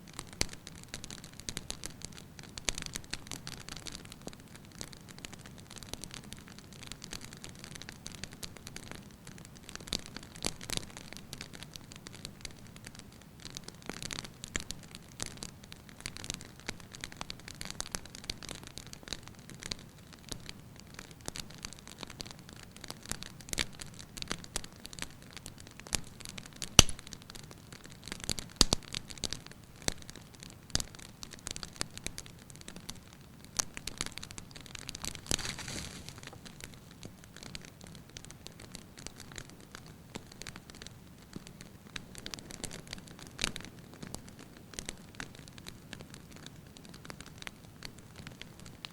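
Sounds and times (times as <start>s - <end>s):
soft fire hiss: 0.0s - 48.9s
wood fire crackling and popping: 0.0s - 48.9s.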